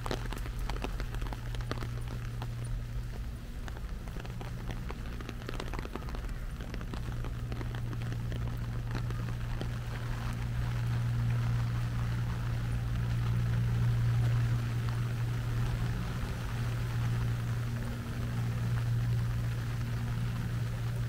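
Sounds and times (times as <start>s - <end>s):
low mechanical hum: 0.0s - 21.0s
rain hiss: 0.0s - 21.0s.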